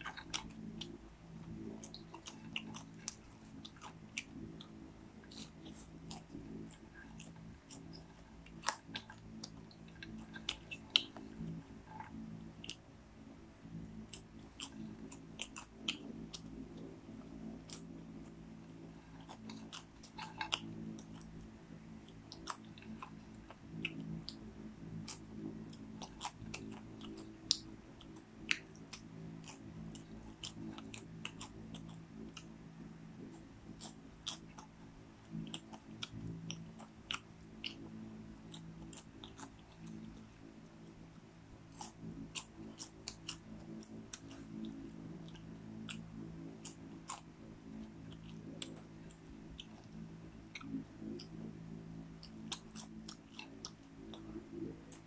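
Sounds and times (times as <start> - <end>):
person chewing popcorn: 0.0 - 55.0
steady low hum: 0.0 - 55.0.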